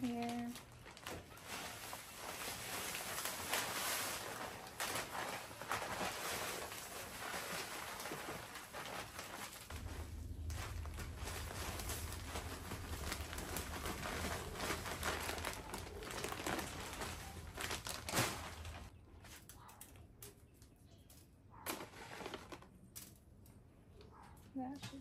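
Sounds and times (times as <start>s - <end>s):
plastic bag crinkling: 0.0s - 19.4s, 21.7s - 23.2s.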